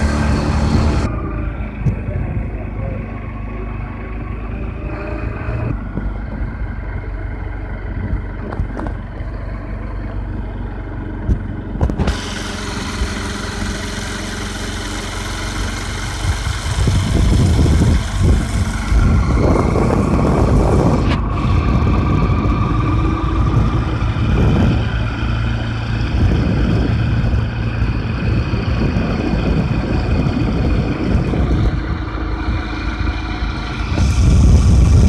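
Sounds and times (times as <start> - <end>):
low rumble: 0.0 - 10.4, 15.2 - 35.0
vehicle engine running: 0.0 - 35.0.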